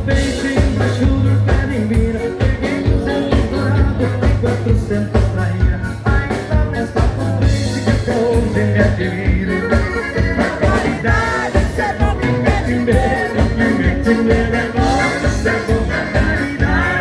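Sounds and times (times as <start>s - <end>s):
dance band playing: 0.0s - 17.0s
person singing: 0.0s - 17.0s.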